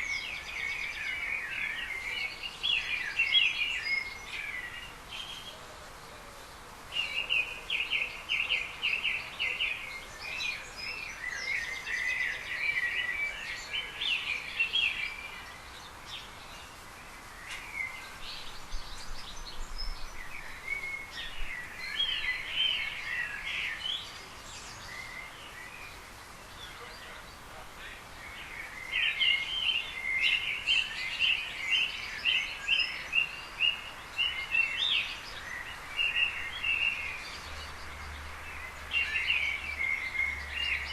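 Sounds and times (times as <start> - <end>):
outdoor background hiss: 0.0 - 40.9
small birds chirping: 0.0 - 40.9.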